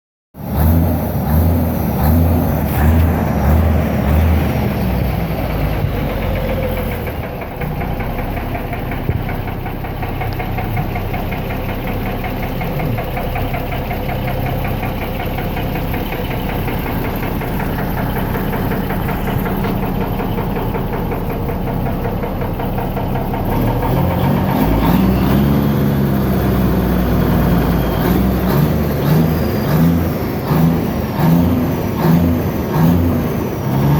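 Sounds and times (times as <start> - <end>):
truck engine running: 0.4 - 33.9.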